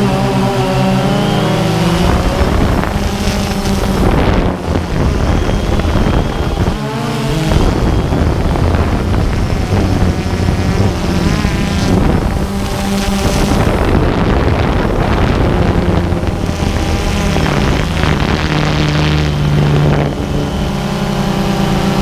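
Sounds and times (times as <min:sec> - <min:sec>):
drone propellers droning: 0:00.0 - 0:22.0
wind buffeting microphone: 0:00.0 - 0:22.0.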